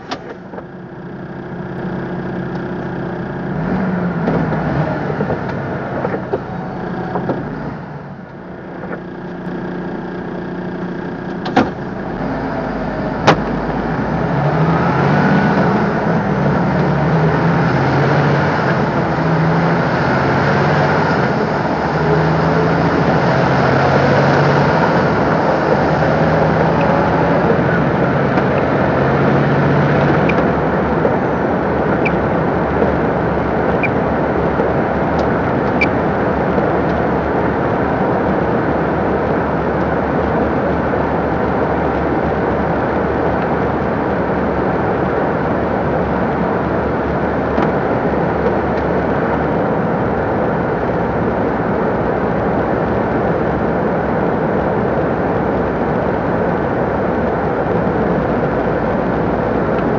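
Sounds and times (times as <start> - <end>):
truck diesel engine: 0.0 - 59.9.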